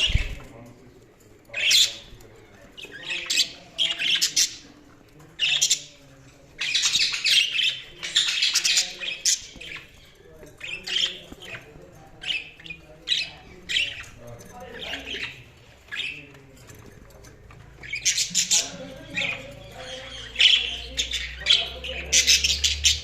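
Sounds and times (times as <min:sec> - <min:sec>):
budgerigars chirping and squawking: 0:00.0 - 0:00.7, 0:01.4 - 0:23.0.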